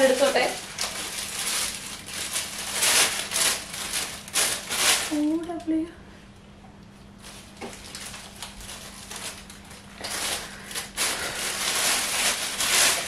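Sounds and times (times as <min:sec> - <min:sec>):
plastic bag and paper crinkling: 0:00.0 - 0:05.8, 0:07.1 - 0:13.0.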